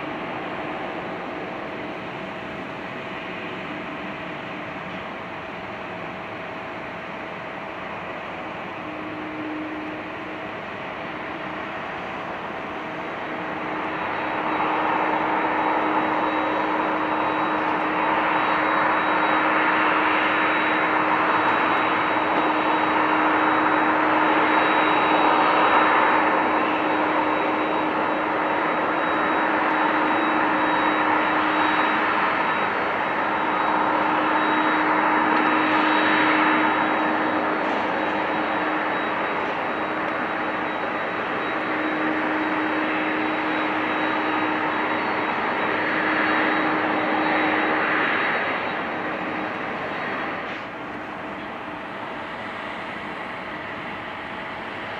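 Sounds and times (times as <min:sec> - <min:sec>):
jet engines at taxi power: 0:00.0 - 0:54.9.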